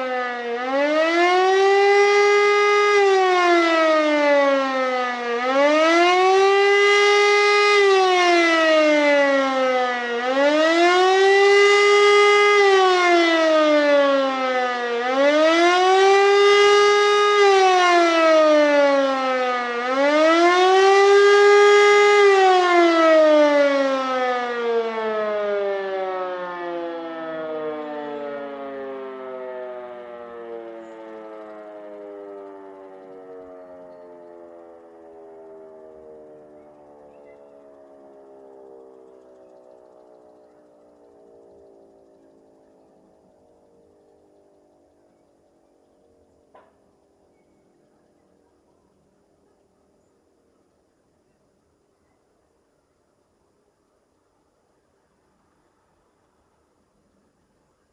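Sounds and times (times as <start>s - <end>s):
civil defense siren wailing: 0.0s - 51.2s.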